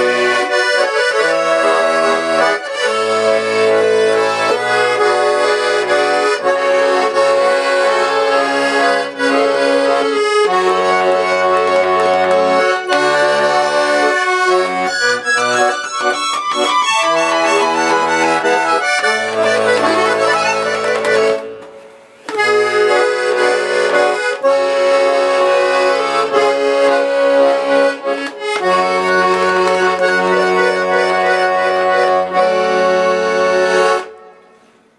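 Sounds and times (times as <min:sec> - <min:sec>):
accordion melody over bass chords: 0:00.0 - 0:34.8.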